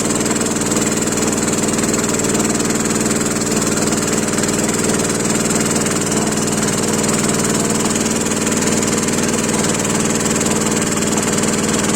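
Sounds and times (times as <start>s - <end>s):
small engine running steadily: 0.0s - 11.9s.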